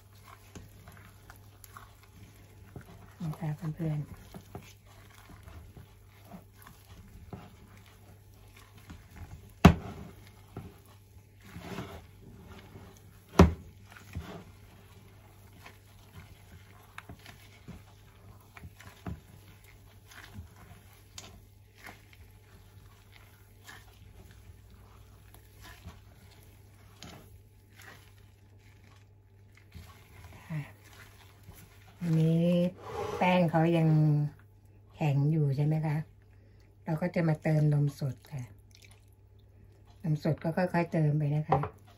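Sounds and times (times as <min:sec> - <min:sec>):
dough squishing in bowl: 0:00.0 - 0:41.9.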